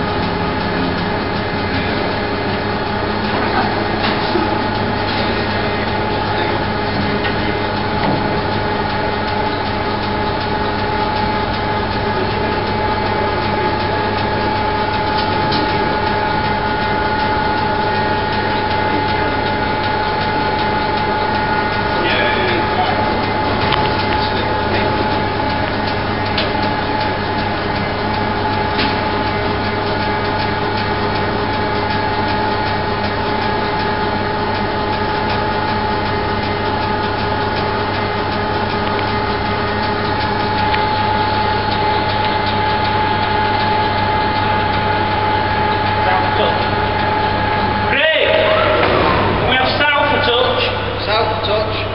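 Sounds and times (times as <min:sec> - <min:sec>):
diesel train engine idling: 0:00.0 - 0:51.9
heavy machinery drone: 0:00.0 - 0:51.9
low hum: 0:00.0 - 0:51.9
steady tones: 0:00.0 - 0:51.9.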